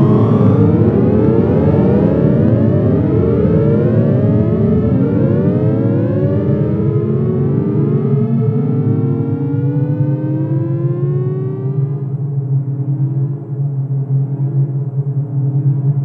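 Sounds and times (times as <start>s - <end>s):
steady low hum: 0.0s - 16.0s
synthesizer drone tones sliding: 0.0s - 16.0s.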